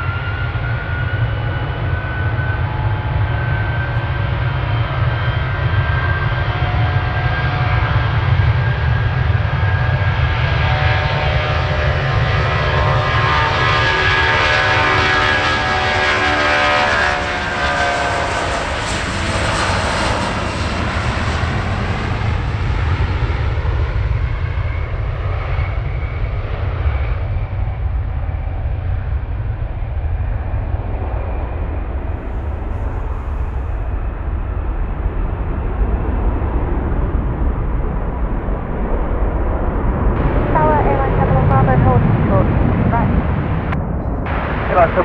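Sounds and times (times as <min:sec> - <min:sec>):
heavy jet rumble: 0:00.0 - 0:45.0
jet engines whining: 0:00.0 - 0:45.0.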